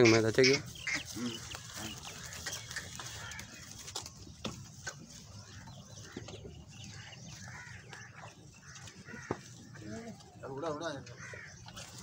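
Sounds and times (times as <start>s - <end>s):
faint bird calls: 0.0s - 12.0s.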